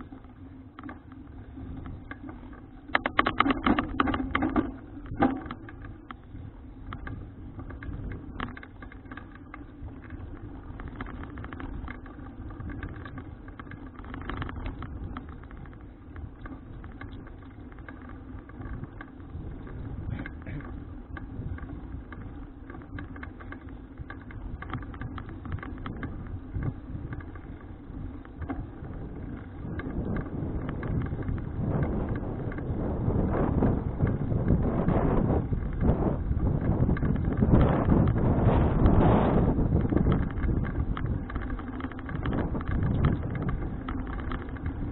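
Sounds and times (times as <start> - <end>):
bicycle rattles and clicks: 0.0 - 44.9
road rumble: 0.0 - 44.9
wind noise: 0.0 - 44.9.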